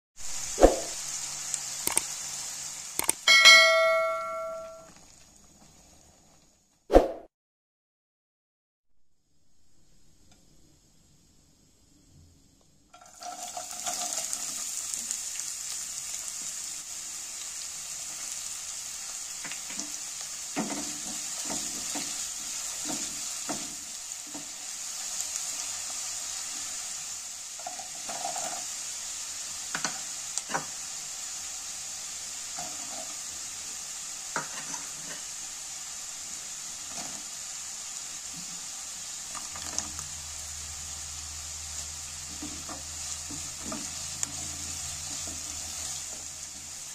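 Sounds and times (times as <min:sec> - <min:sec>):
vegetables sizzling in hot oil: 0:00.2 - 0:06.9, 0:09.2 - 0:46.9.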